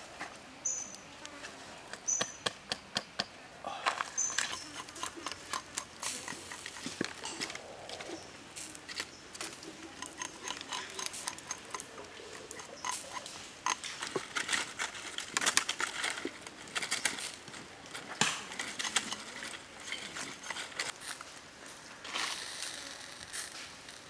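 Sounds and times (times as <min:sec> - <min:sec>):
blade shaving and knocking bamboo: 0:01.4 - 0:21.4.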